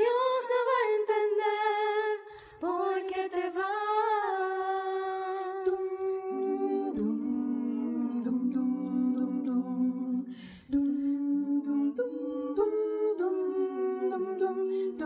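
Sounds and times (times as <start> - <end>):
vocal ensemble singing a cappella: 0.0 - 15.0.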